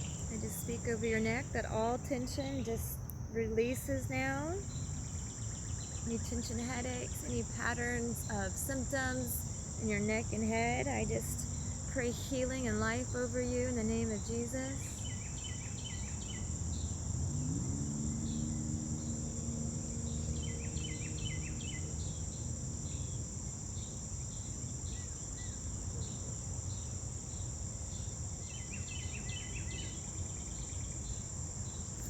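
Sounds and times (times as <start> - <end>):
constant low rumble: 0.0 - 26.8
insect chorus: 0.0 - 32.0.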